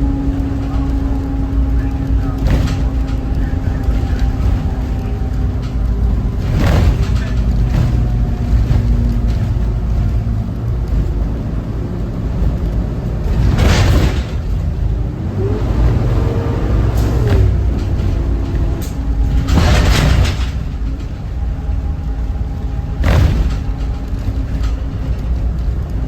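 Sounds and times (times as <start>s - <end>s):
diesel bus engine rumble: 0.0s - 26.0s.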